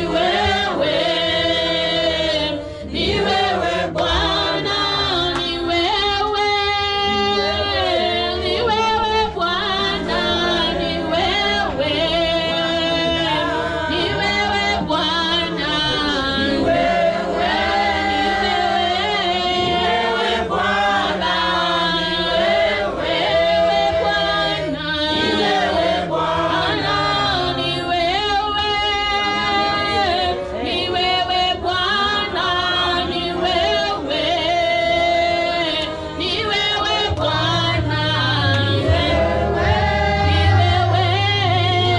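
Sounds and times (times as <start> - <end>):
choir singing gospel song: 0.0 - 41.9.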